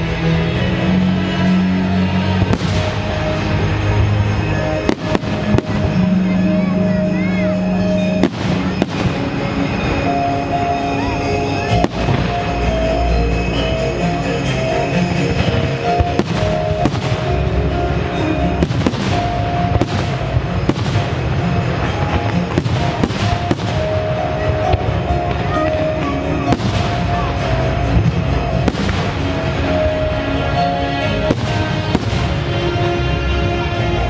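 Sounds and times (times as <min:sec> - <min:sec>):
music soundtrack: 0:00.0 - 0:34.0
fireworks bursting with sharp bangs: 0:02.2 - 0:33.1.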